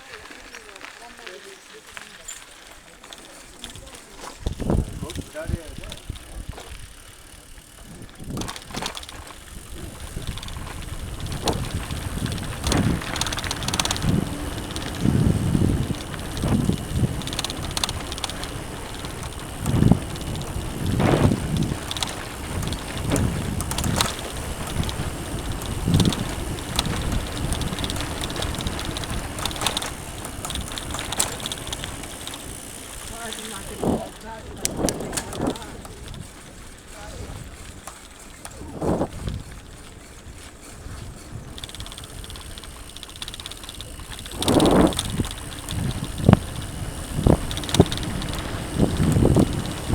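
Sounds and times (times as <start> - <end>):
bike tyres on dirt trail: 0.0 - 49.9
bike knocks and rattles: 2.3 - 49.9
wind on microphone: 4.4 - 6.9, 7.8 - 37.8, 38.4 - 49.9.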